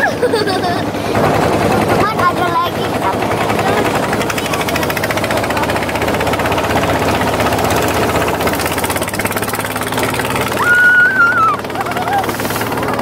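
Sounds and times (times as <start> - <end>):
speedboat motor running: 0.0 - 13.0.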